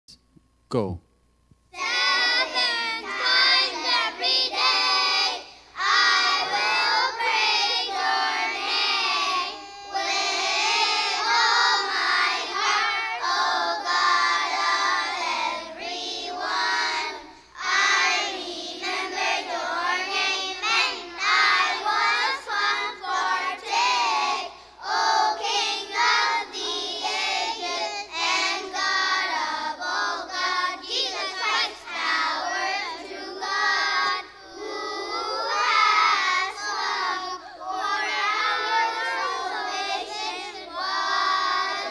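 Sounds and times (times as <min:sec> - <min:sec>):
children singing a hymn: 0:01.8 - 0:41.9.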